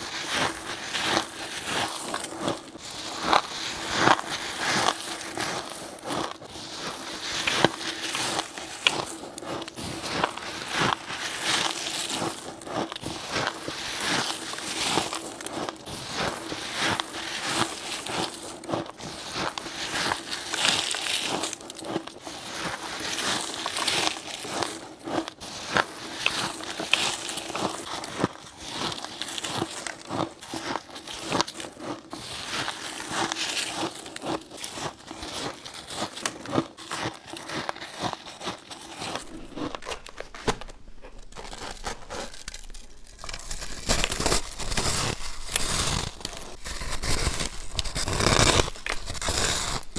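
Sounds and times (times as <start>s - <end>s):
crushed ice being chewed: 0.0s - 49.9s.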